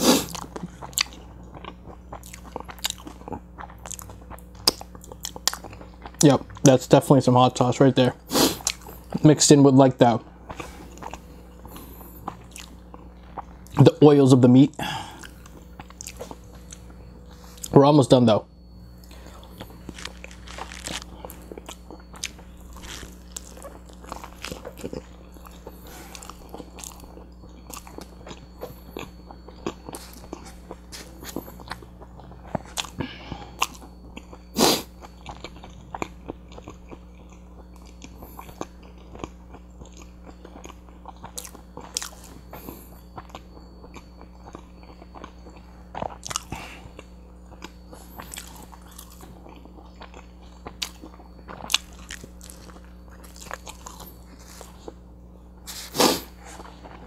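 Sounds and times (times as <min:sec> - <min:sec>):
close chewing and biting: 0:00.0 - 0:06.8, 0:10.5 - 0:13.9, 0:18.6 - 0:55.0
faint steady hum: 0:00.0 - 0:57.0.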